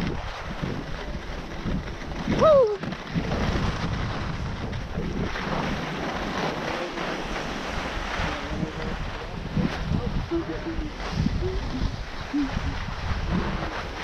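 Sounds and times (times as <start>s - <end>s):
skis scraping on snow: 0.0s - 14.0s
wind buffeting microphone: 0.0s - 14.0s.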